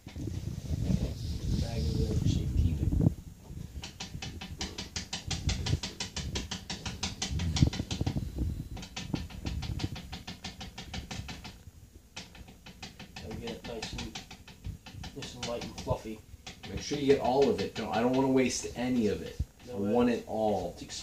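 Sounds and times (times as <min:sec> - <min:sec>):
rapid tapping on wood: 0:03.4 - 0:21.0.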